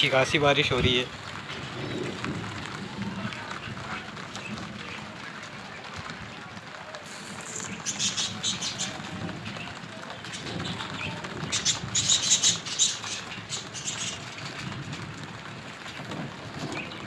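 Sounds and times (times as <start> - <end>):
heavy rain hiss: 0.0 - 5.4, 6.7 - 15.1
small birds chirping: 0.0 - 15.0.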